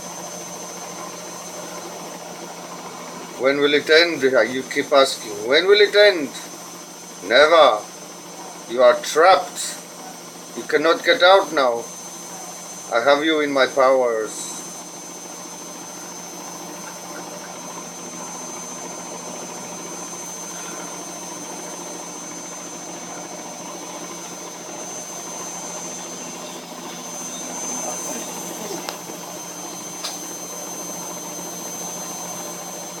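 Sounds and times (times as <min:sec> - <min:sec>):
high whine: 0:00.0 - 0:33.0
washing machine running: 0:00.0 - 0:33.0.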